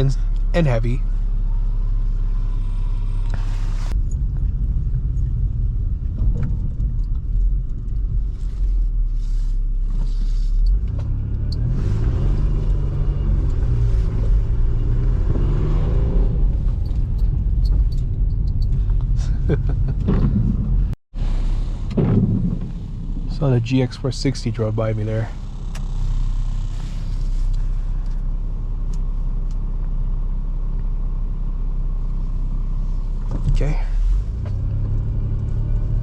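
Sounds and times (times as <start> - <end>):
car engine rumble: 0.0 - 36.0
tyres on snowy road: 0.0 - 36.0.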